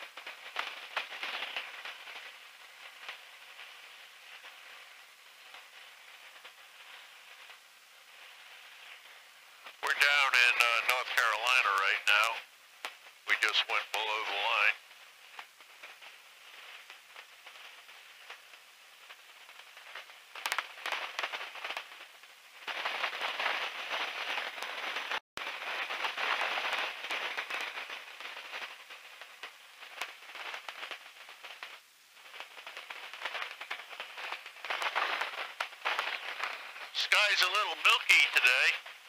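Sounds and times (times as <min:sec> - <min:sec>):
crackling intercom hiss: 0:00.0 - 0:39.0.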